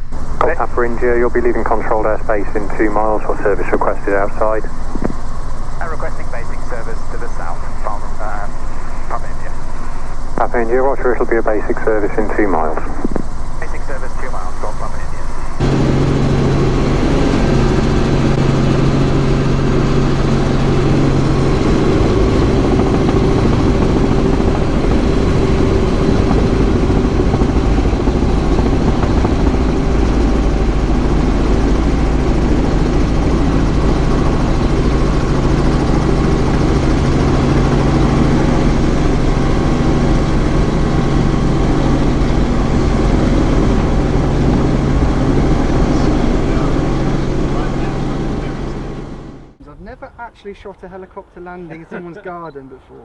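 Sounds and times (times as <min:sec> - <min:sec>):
helicopter engine and rotors: 0:00.0 - 0:52.9.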